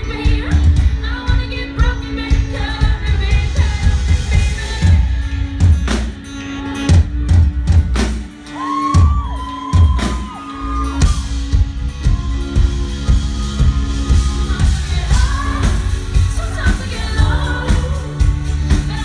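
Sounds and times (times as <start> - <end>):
bass guitar: 0.0 - 19.0.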